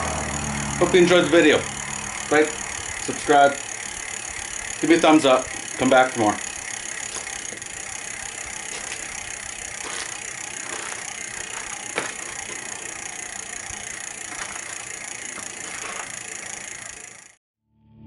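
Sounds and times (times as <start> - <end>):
bicycle wheel and chain whirring: 0.0 - 17.4.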